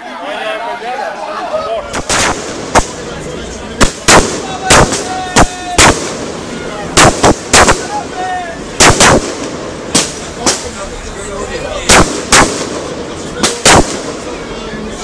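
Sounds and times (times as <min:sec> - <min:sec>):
fireworks banging: 0:01.8 - 0:15.0.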